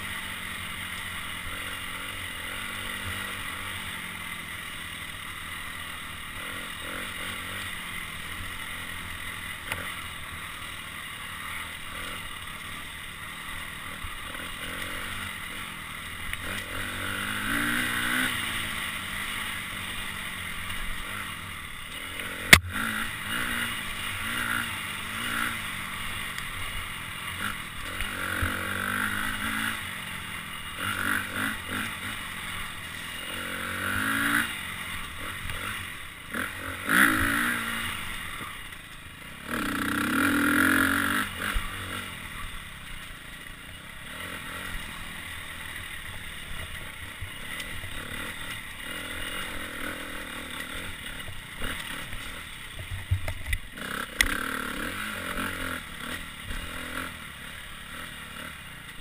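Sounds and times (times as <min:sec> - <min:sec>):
dirt bike engine revving: 0:00.0 - 0:59.0
trail clatter: 0:00.0 - 0:59.0.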